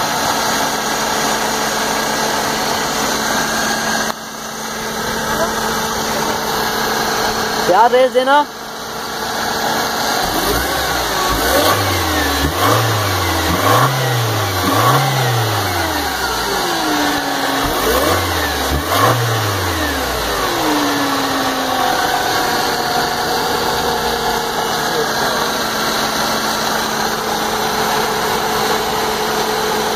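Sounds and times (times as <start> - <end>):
car engine revving and idling: 0.0 - 29.9
light engine whine: 0.0 - 29.9.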